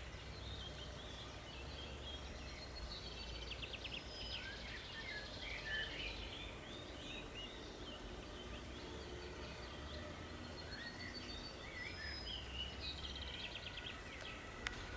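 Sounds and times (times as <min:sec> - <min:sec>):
songbirds singing and chirping: 0:00.0 - 0:14.9.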